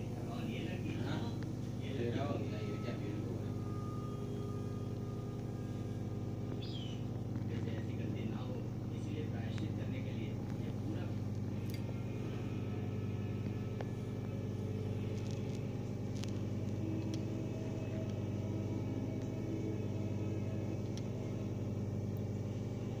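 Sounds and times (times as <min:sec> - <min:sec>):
low machine drone: 0:00.0 - 0:23.0.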